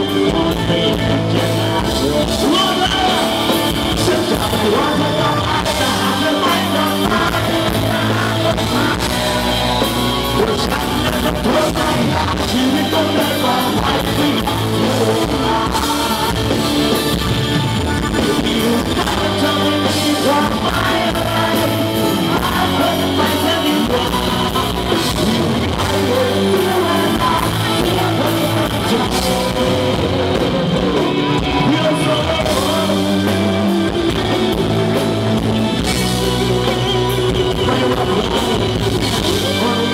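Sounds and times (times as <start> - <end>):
bass guitar: 0.0 - 39.9
drum kit: 0.0 - 39.9
electric guitars: 0.0 - 39.9
man singing: 0.0 - 39.9.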